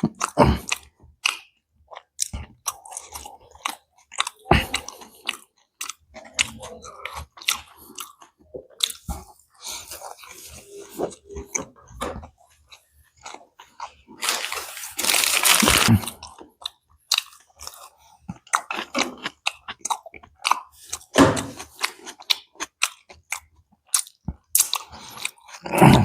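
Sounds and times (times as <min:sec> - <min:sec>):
chewing and crunching food: 0:00.0 - 0:26.0.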